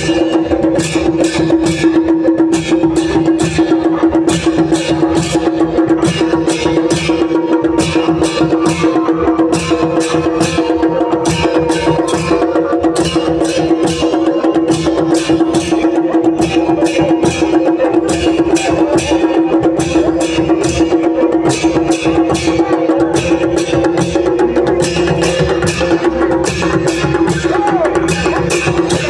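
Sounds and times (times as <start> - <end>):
drums playing: 0.0 - 29.0
hand cymbals clashing: 0.0 - 29.0.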